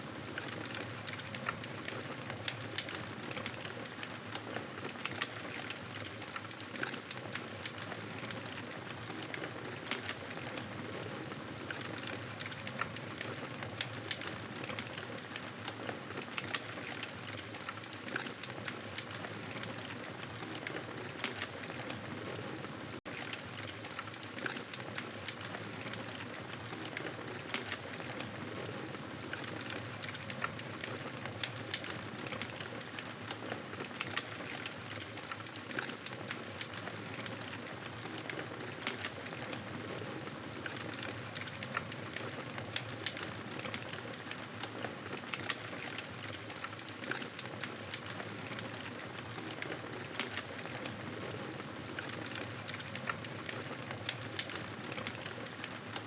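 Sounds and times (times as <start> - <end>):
campfire crackling and popping: 0.2 - 56.0.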